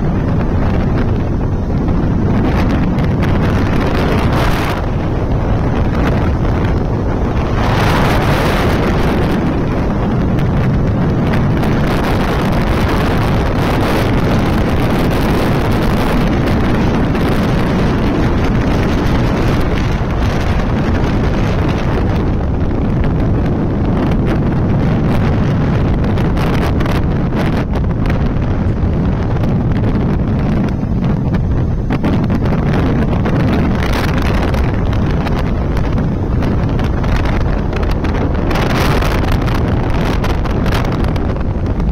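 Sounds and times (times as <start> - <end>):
heavy wind on microphone: 0.0 - 41.9.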